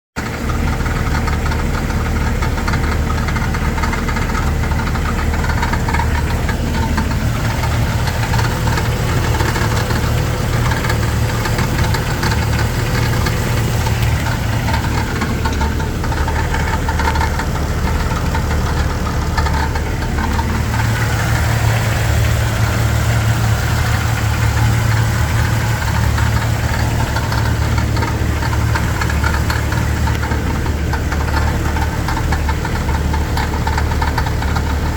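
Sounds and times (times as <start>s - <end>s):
car engine running: 0.2s - 34.9s
engine rattling: 0.2s - 34.9s.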